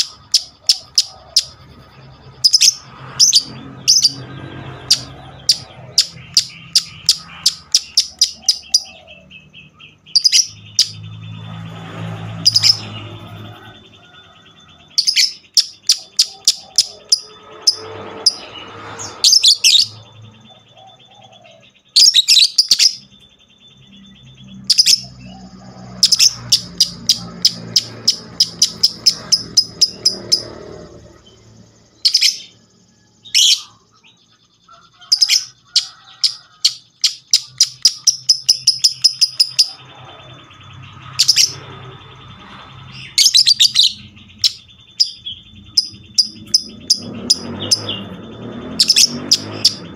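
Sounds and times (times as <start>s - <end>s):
lovebird chattering chirps: 0.0s - 49.9s.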